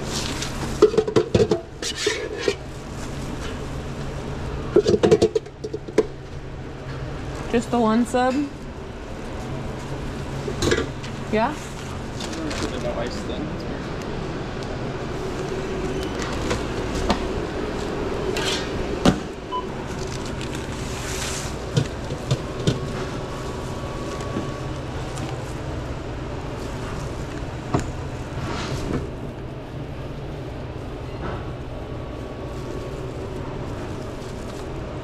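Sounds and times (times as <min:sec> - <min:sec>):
low kitchen hum: 0:00.0 - 0:35.0.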